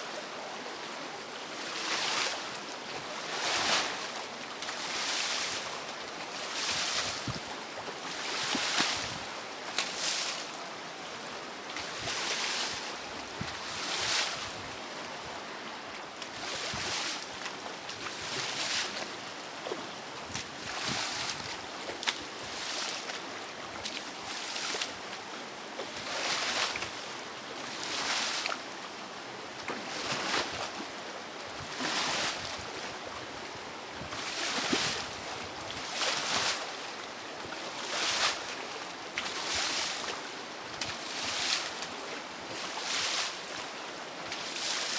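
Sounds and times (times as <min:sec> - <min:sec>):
rushing river water: 0:00.0 - 0:44.9.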